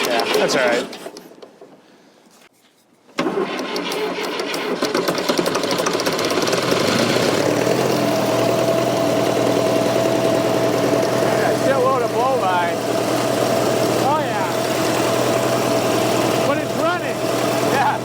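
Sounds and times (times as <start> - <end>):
rough rattly diesel engine: 3.2 - 18.0.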